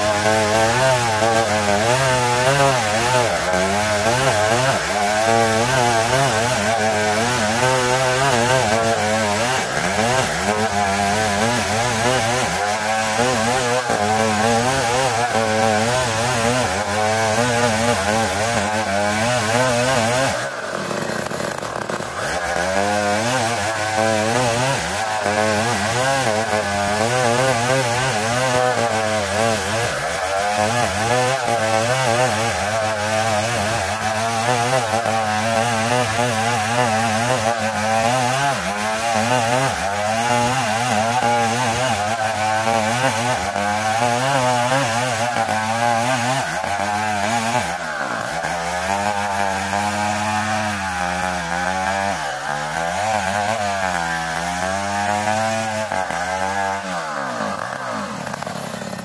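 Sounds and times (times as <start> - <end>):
chainsaw cutting hard wood: 0.0 - 59.0.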